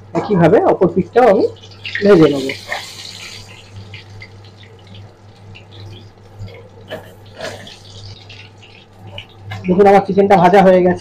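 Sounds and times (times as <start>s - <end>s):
chicken sizzling in hot oil: 1.2s - 10.5s.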